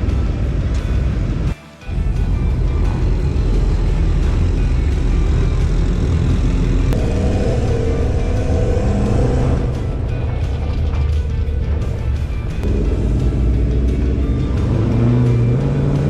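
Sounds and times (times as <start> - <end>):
car engine running hard: 0.0 - 16.0
road and wind noise: 0.0 - 16.0.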